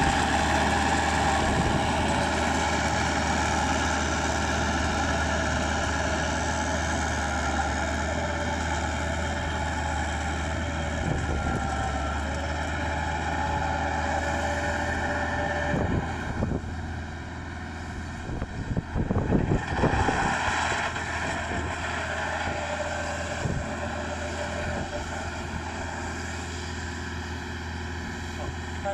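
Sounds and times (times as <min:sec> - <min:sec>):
crawler tractor engine running: 0:00.0 - 0:28.9.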